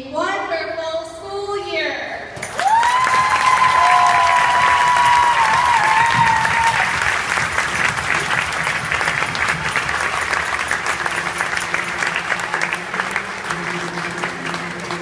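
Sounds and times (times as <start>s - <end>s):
crowd applauding: 2.4s - 15.0s.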